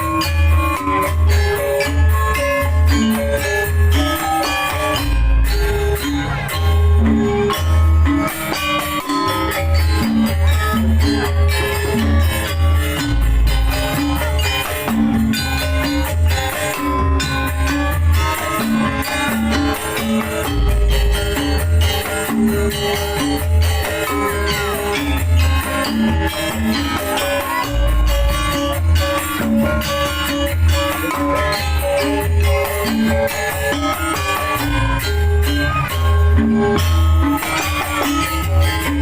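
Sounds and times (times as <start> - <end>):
pulsing bass line: 0.0 - 39.0
shaken and struck percussion: 0.0 - 39.0
tuned percussion ensemble music: 0.0 - 39.0.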